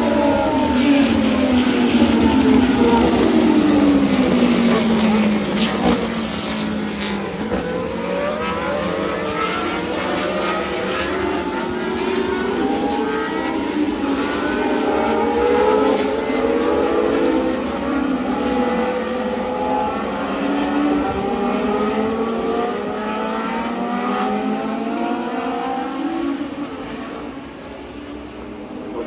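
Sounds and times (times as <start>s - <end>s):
race car engines at high revs: 0.0s - 29.0s.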